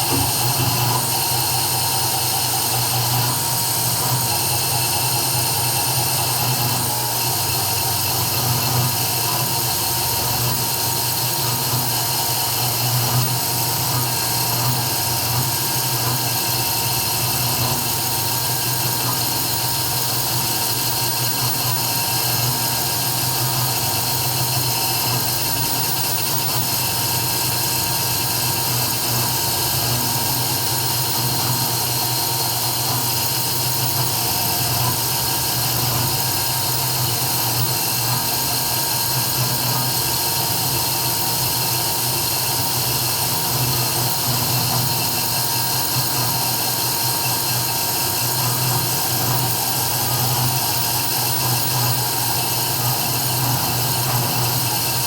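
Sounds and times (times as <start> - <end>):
engraving machine spindle whine: 0.0 - 55.0.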